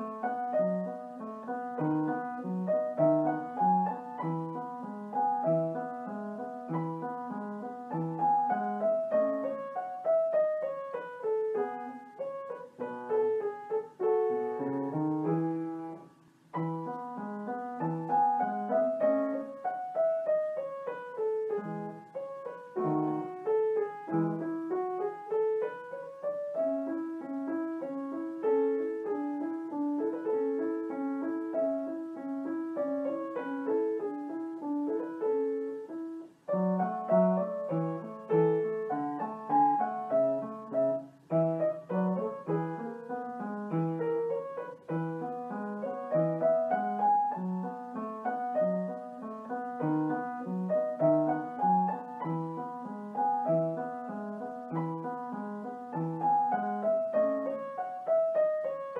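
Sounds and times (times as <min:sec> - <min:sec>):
gentle piano music: 0:00.0 - 0:58.9.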